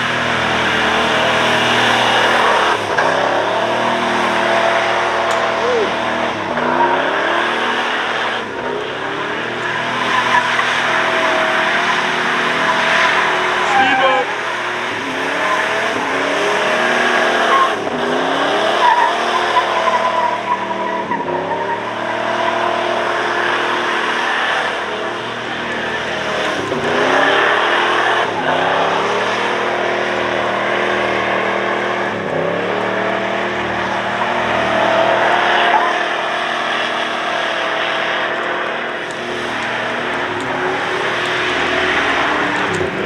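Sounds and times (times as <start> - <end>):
car engine accelerating through gears: 0.0 - 43.0.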